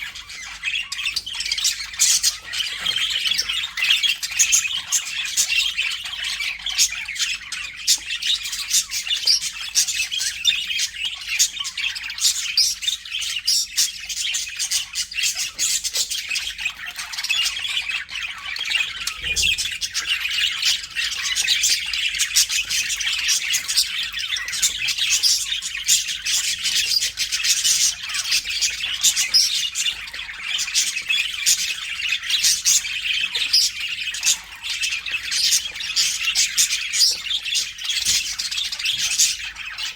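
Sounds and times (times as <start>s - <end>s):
budgies chattering: 0.0s - 39.9s.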